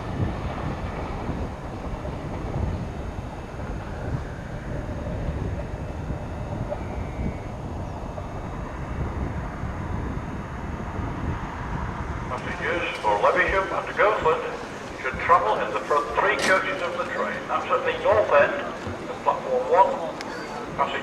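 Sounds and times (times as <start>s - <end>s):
train knocks: 0.0s - 21.0s
train rumbling at low speed: 0.0s - 21.0s.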